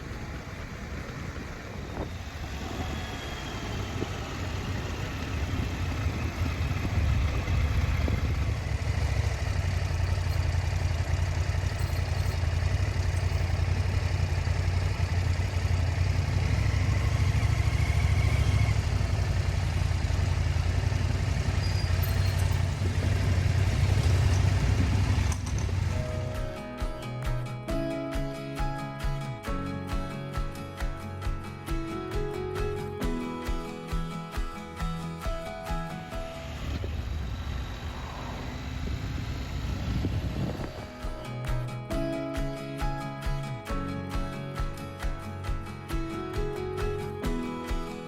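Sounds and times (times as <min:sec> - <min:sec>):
motorcycle engine drone: 0:00.0 - 0:30.1, 0:32.1 - 0:48.0.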